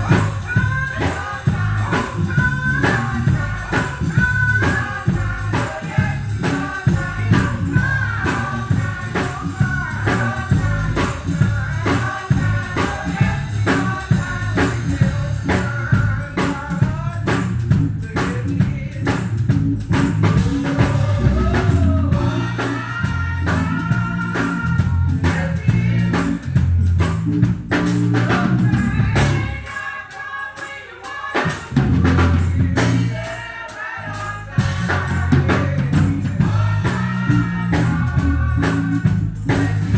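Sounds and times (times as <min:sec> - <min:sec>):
bass guitar: 0:00.0 - 0:29.8, 0:31.5 - 0:39.9
drum kit: 0:00.0 - 0:39.9
tambourine: 0:00.0 - 0:39.9
voices singing: 0:00.0 - 0:39.9.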